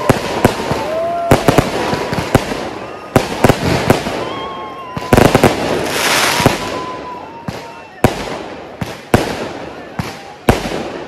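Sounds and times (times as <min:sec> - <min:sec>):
crackling firework reports: 0:00.0 - 0:11.0
firework bangs: 0:00.0 - 0:11.0.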